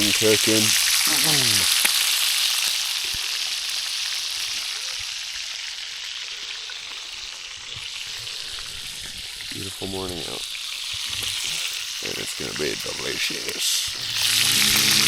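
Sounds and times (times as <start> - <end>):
bacon sizzling in a frying pan: 0.0 - 15.0.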